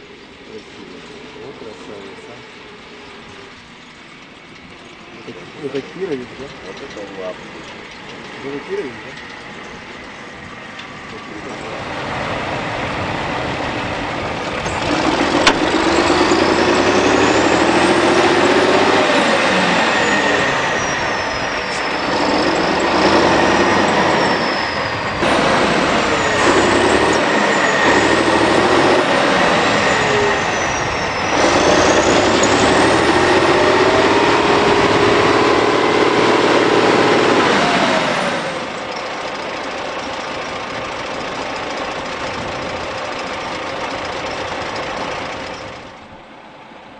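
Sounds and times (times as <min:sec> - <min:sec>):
high whine: 0:00.0 - 0:46.9
tractor diesel engine revving: 0:00.0 - 0:46.9.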